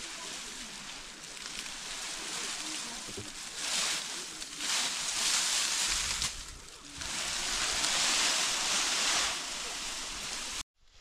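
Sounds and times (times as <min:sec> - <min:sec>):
dry leaves rustling and crackling: 0:00.0 - 0:11.0.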